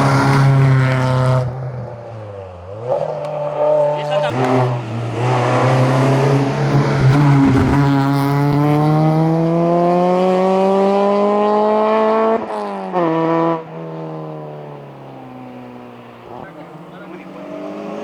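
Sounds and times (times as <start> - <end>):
race car engine at full throttle: 0.0 - 18.0.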